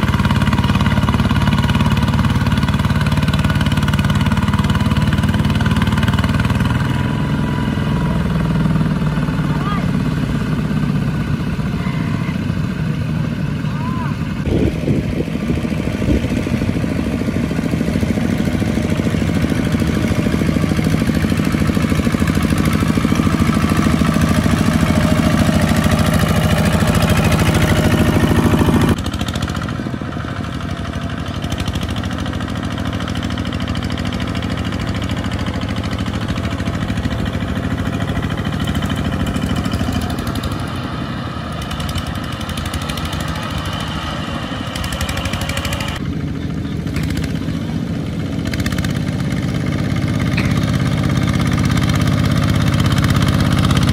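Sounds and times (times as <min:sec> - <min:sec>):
diesel tractor engines running: 0:00.0 - 0:53.9.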